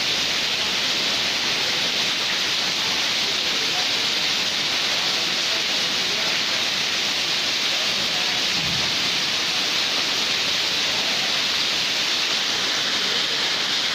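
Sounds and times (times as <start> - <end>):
heavy rain on pavement: 0.0 - 13.9.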